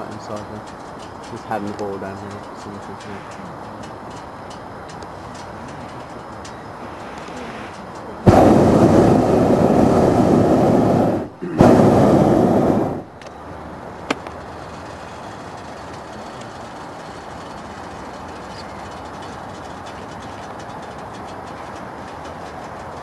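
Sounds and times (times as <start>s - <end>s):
low steady background: 0.0s - 23.0s
propane burner blasts: 0.0s - 23.0s.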